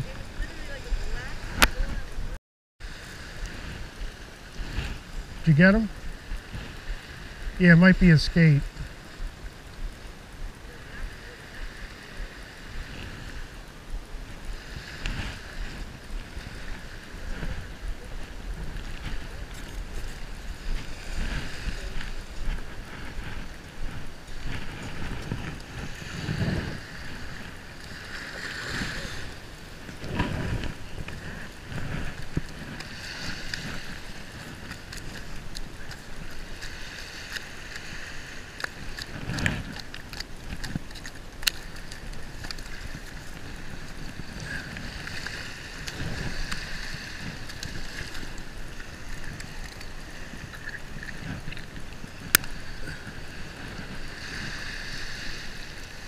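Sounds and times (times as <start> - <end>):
small waves washing on shore: 0.0 - 56.0
surf hissing: 0.0 - 56.0
wind gusting on microphone: 0.0 - 56.0.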